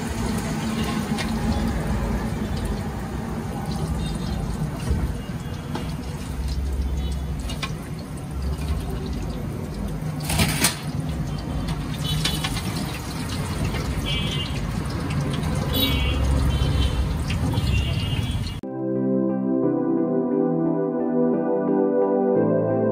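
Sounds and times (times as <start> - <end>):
hot oil sizzling and bubbling: 0.0 - 18.6.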